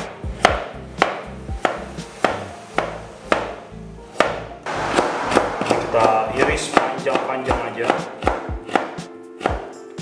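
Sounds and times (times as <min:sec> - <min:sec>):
knife slicing carrot on board: 0:00.0 - 0:03.5, 0:04.1 - 0:10.0
background music: 0:00.0 - 0:10.0.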